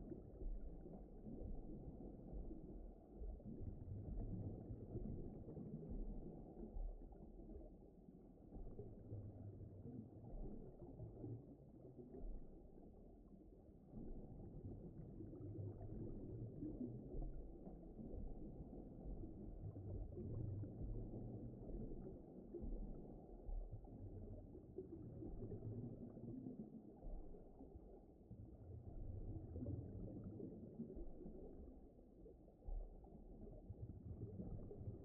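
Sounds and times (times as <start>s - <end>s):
muffled underwater rumbling: 0.0s - 35.0s.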